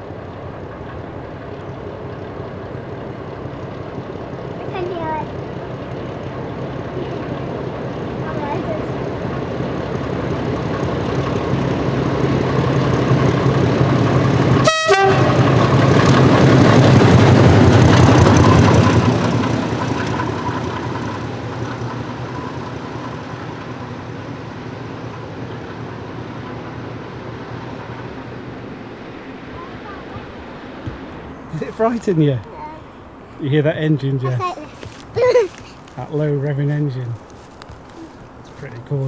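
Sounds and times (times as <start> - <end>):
diesel locomotive passing: 0.0 - 39.0.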